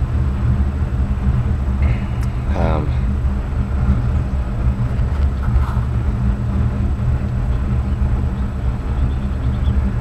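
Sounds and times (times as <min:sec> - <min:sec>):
air blower running: 0:00.0 - 0:10.0
boiler rumbling and humming: 0:00.0 - 0:10.0.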